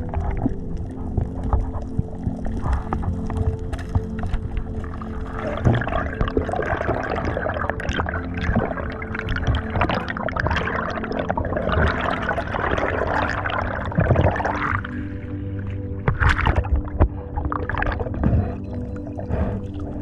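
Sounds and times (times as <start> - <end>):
water splashing and bubbling: 0.0 - 20.0.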